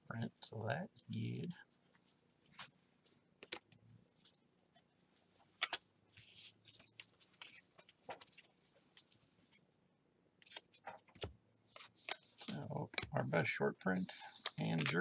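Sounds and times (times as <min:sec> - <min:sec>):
trading cards rustling and clicking: 0:01.2 - 0:09.6, 0:10.4 - 0:15.0.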